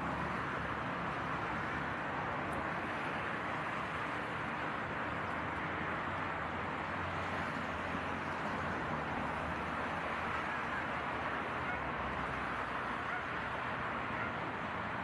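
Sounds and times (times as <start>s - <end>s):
road traffic roar: 0.0s - 15.0s.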